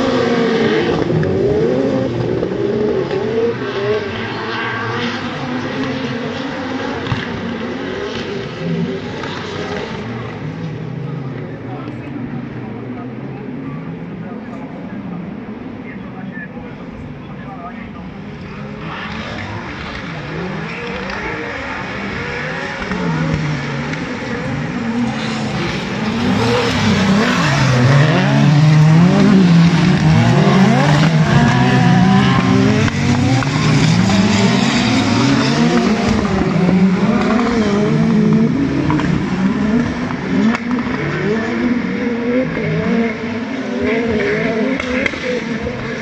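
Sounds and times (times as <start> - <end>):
racing car engines revving: 0.0 - 46.0.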